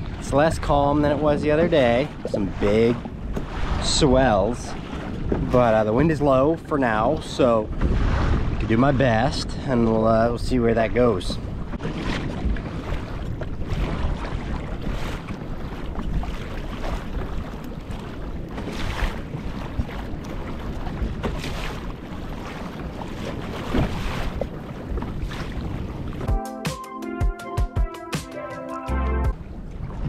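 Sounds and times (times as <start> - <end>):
water splashing against kayak hull: 0.0 - 26.3, 29.3 - 30.0
wind buffeting microphone: 0.0 - 26.3.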